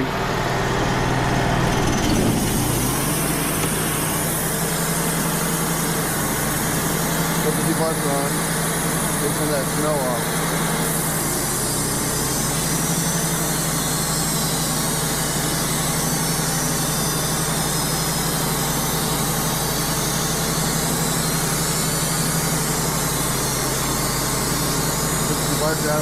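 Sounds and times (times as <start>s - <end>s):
sawmill running: 0.0s - 26.0s.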